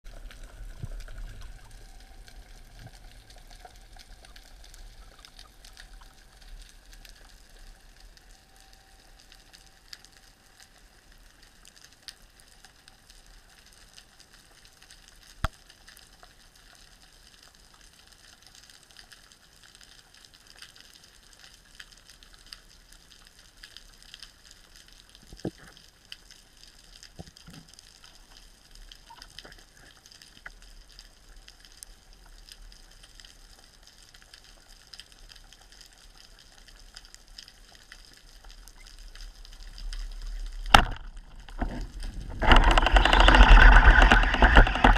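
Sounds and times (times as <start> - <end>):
underwater crackle of tiny clicks: 0.1 - 44.9.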